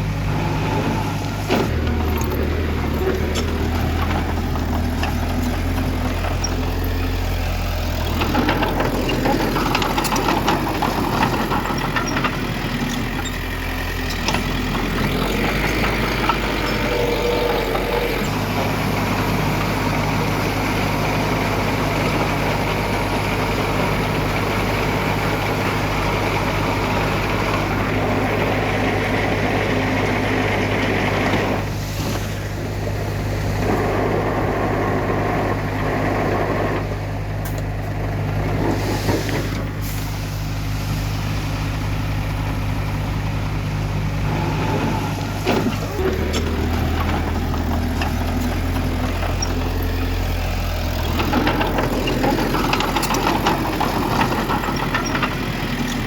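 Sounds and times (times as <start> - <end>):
construction machine diesel engines: 0.0 - 56.0.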